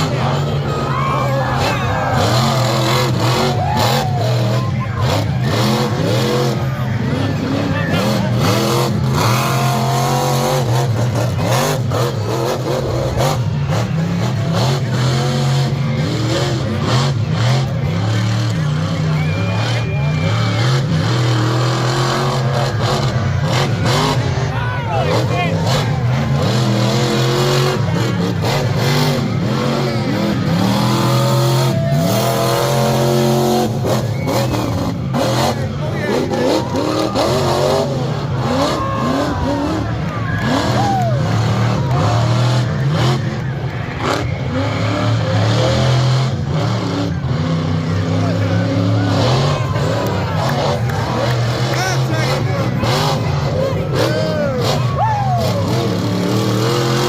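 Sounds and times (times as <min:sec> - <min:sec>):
truck engine revving hard: 0:00.0 - 0:57.0.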